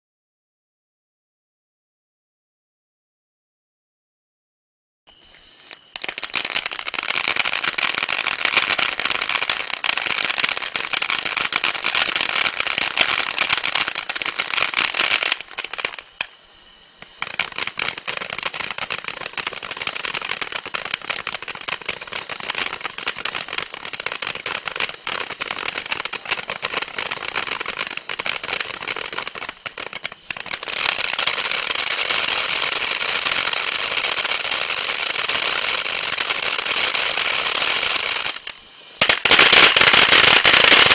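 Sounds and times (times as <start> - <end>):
firework crackling hiss: 5.1 - 40.9.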